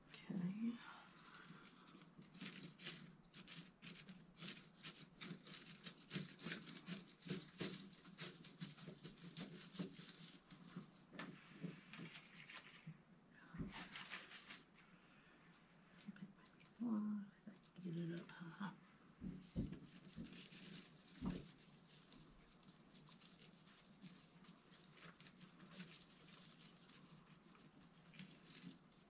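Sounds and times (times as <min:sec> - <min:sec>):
flower stems rustling and crinkling: 0:00.3 - 0:14.9, 0:15.5 - 0:29.0
small ticks and crackles: 0:01.2 - 0:13.0, 0:16.0 - 0:18.5, 0:19.2 - 0:29.0.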